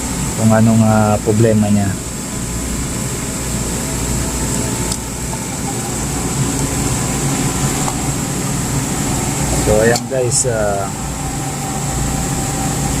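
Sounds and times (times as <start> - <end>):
compressor humming: 0.0 - 13.0.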